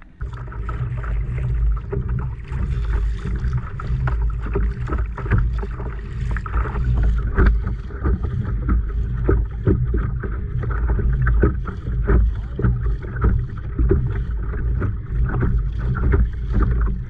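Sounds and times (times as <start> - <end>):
water lapping against kayak hull: 0.0 - 17.0.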